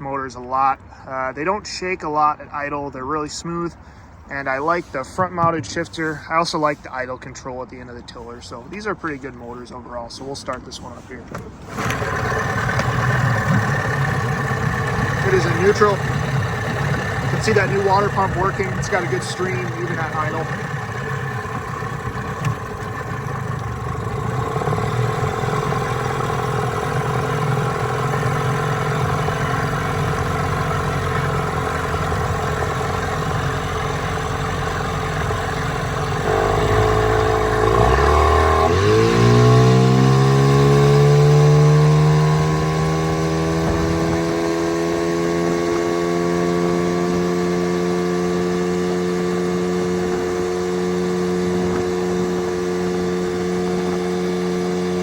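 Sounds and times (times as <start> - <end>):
outboard motor running: 3.9 - 6.8, 11.3 - 55.0.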